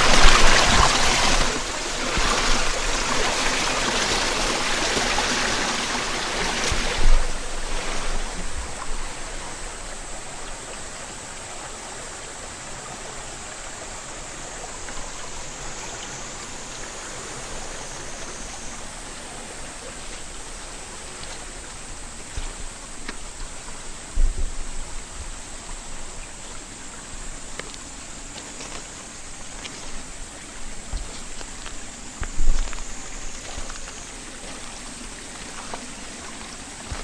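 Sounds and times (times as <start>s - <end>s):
mountain stream flowing: 0.0s - 37.0s.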